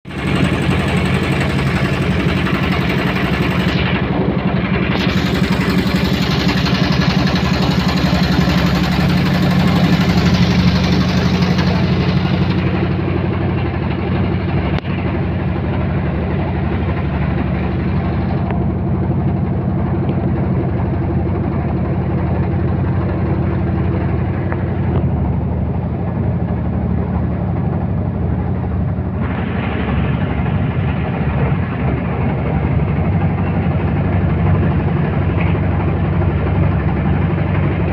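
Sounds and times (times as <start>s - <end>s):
boat engine running: 0.1s - 37.9s.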